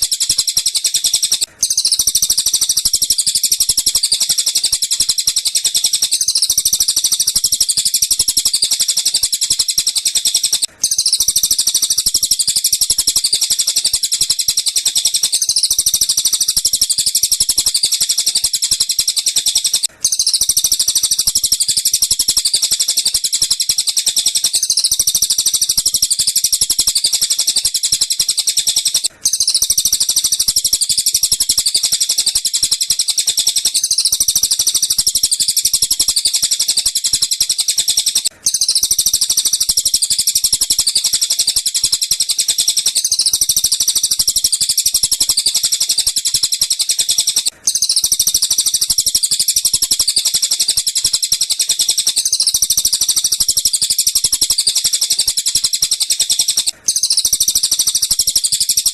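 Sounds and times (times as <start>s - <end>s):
high-pitched chattering bird trill: 0.0s - 58.9s.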